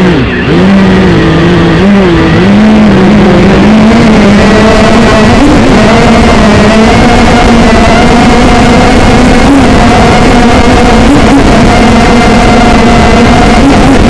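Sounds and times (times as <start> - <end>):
drone motors buzzing whine: 0.0 - 14.0.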